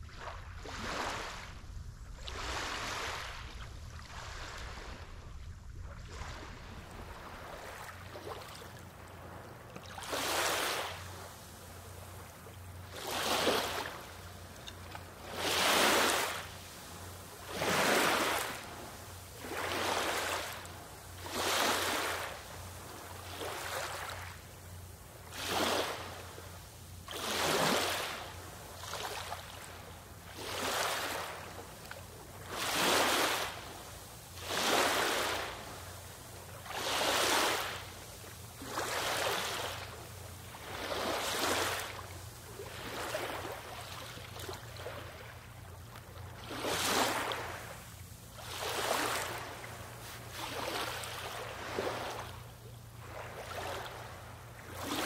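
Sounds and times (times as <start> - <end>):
low steady hum: 0.0 - 55.0
small waves washing in: 0.0 - 55.0.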